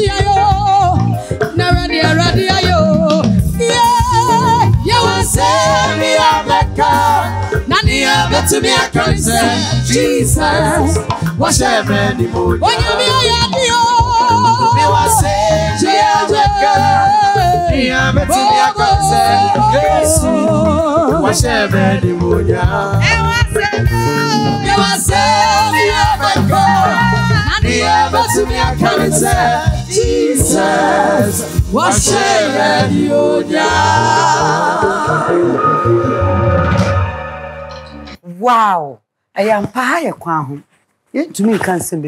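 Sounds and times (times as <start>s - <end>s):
women singing together: 0.0s - 35.5s
backing track with steady beat: 0.0s - 38.2s.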